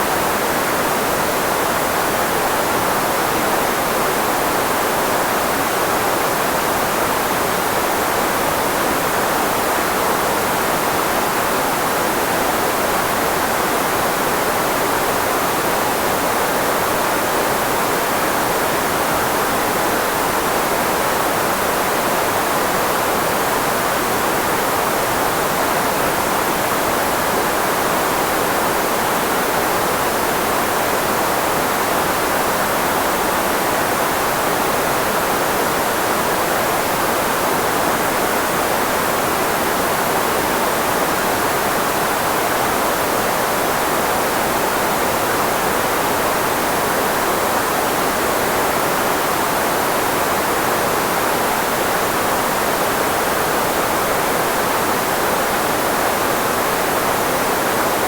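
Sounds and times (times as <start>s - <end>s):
filtered white noise hiss: 0.0s - 58.0s.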